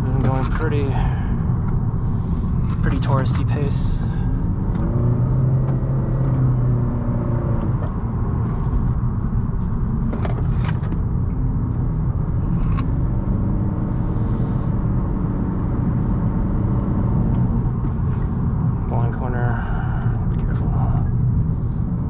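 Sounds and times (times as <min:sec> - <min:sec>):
car engine accelerating: 0:00.0 - 0:22.0
tyre and road noise: 0:00.0 - 0:22.0.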